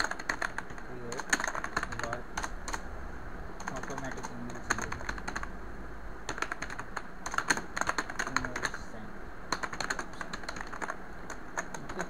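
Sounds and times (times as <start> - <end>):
keyboard typing: 0.0 - 2.8, 3.6 - 5.5, 6.3 - 8.8, 9.5 - 12.0.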